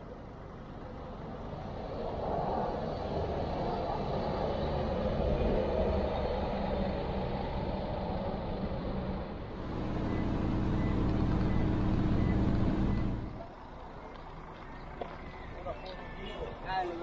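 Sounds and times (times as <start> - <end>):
open-air background: 0.0 - 17.0
vehicle engine and road noise: 0.0 - 17.0.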